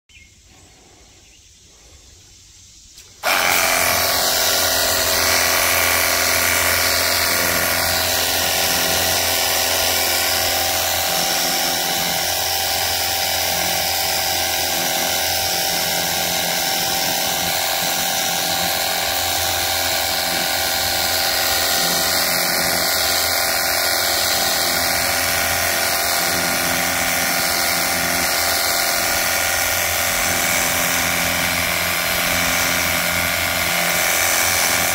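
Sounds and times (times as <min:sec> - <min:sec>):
pressure washer humming and hissing: 0:03.2 - 0:34.9.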